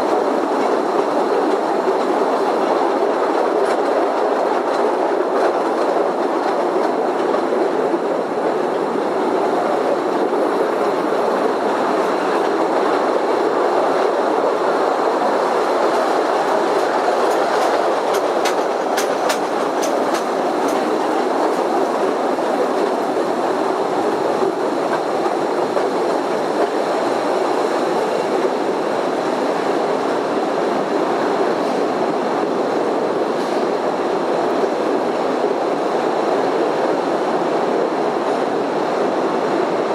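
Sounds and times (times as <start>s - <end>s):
train rumbling rattle on rails: 0.0s - 39.9s.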